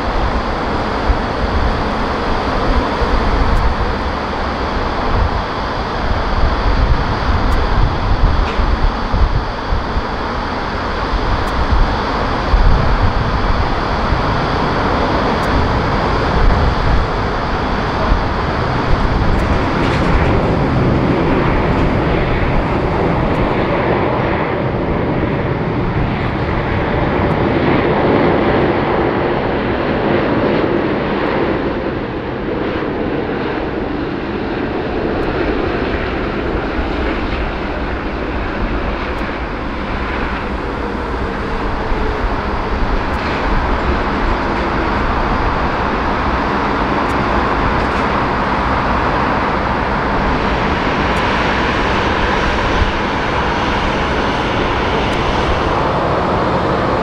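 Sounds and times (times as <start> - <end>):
jet engine roar on landing: 0.0 - 57.0.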